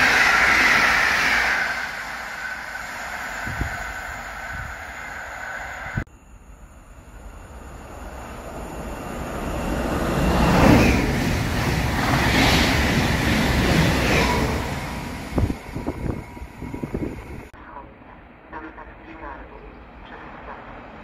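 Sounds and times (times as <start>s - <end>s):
passenger train passing: 0.0s - 21.0s.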